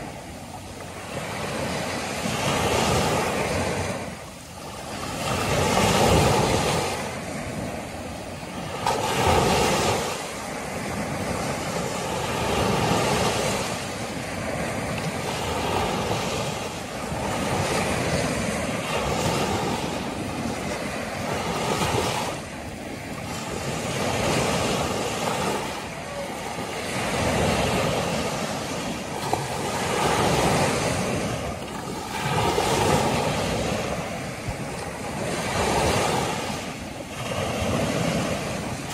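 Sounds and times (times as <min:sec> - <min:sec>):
waves washing up a beach: 0:00.0 - 0:38.9.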